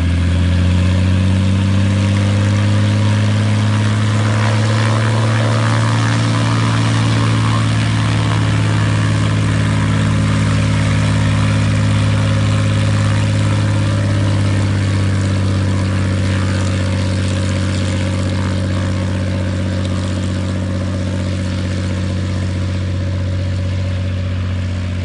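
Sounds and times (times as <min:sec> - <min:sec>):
aircraft engine and propeller: 0:00.0 - 0:25.0.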